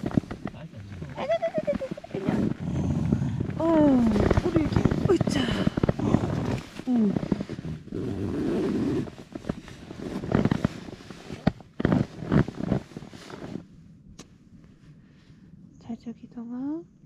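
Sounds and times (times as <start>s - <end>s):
nylon fabric rustling: 0.0s - 13.7s
low rough rumble: 0.0s - 17.0s.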